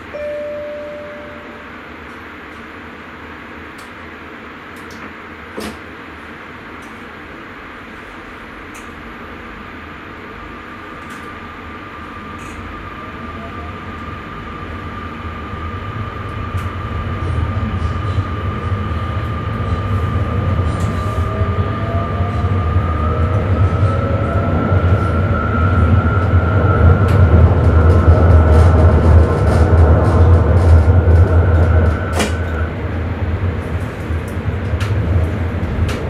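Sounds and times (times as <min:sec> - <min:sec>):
train running rumble: 0:00.0 - 0:36.0.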